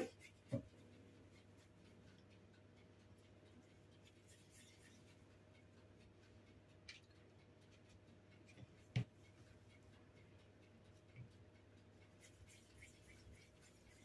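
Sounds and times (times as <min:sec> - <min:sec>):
hands rolling dough: 0:00.0 - 0:14.0.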